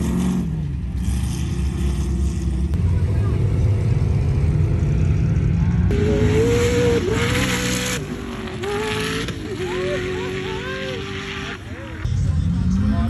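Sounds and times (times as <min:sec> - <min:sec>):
buggy engine at high revs: 0:00.0 - 0:13.0
deep engine rumble: 0:00.0 - 0:13.0.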